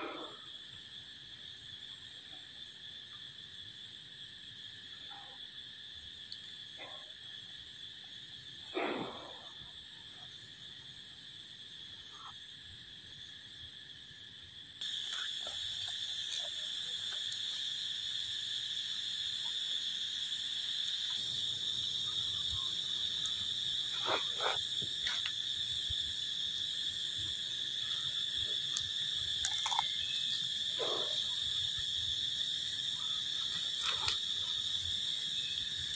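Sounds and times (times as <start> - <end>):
insects chorus: 0.0 - 35.9.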